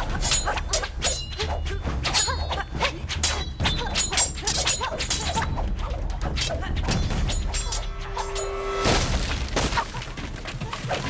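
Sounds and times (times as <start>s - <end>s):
steel blades clashing: 0.0s - 9.1s.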